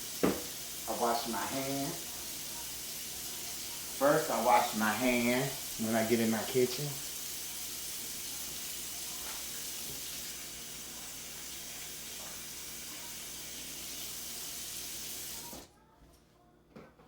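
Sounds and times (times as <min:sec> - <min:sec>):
faucet running over hands: 0:00.0 - 0:15.7.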